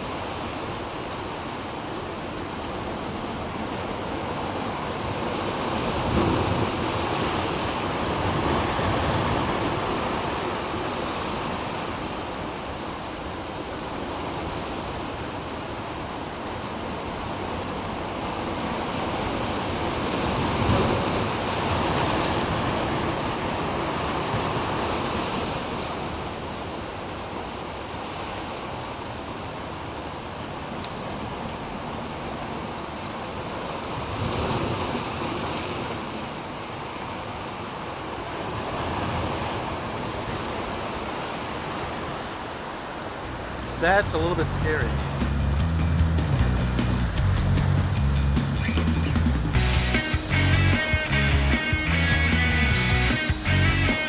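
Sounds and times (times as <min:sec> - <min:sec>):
surf washing between rocks: 0:00.0 - 0:48.2.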